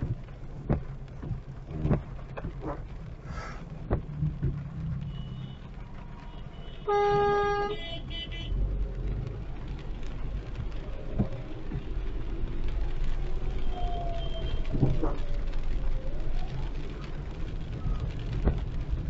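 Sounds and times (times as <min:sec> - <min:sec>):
low rumble of driving in rain: 0:00.0 - 0:19.0.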